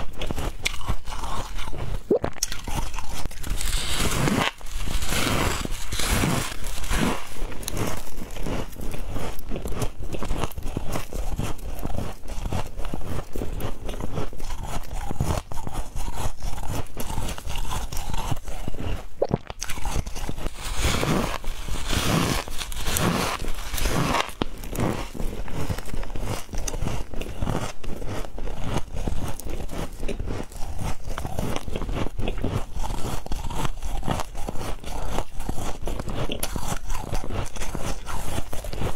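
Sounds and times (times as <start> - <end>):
person chewing frost with squeaky crunches: 0.0 - 38.9.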